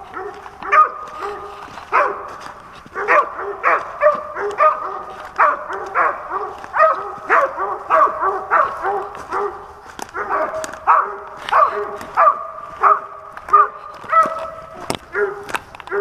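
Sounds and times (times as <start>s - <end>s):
hounds barking: 0.0s - 16.0s.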